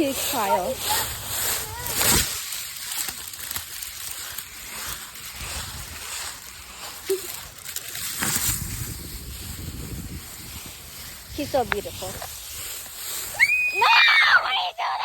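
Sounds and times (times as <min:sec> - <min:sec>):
dry leaves rustling and crunching: 0:00.0 - 0:15.0.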